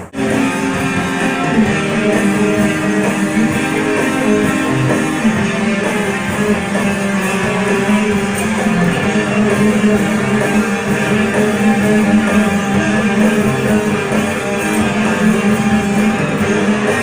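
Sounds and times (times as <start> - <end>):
strummed guitar music: 0.0 - 17.0.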